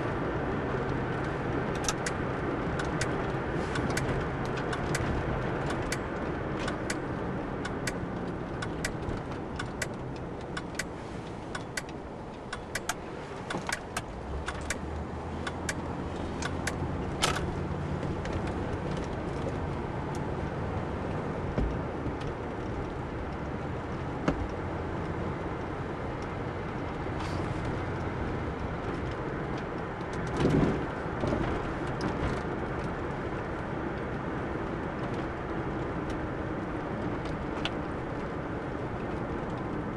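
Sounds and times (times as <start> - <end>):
road and engine noise in car: 0.0 - 39.9.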